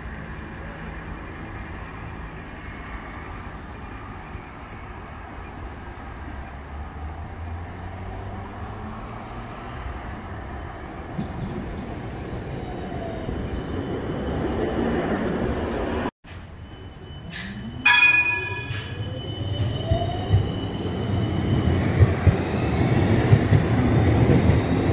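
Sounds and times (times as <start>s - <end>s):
tram rumbling on rails: 0.0s - 24.9s.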